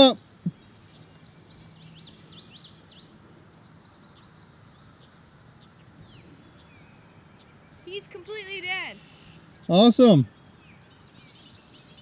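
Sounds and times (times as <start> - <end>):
faint background noise: 0.0 - 12.0
songbird singing: 0.0 - 12.0.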